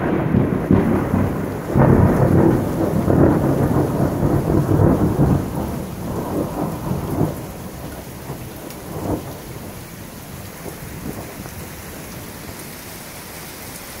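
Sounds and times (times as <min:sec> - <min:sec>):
low thunder rumbles: 0:00.0 - 0:12.7
steady rain falling: 0:00.0 - 0:14.0.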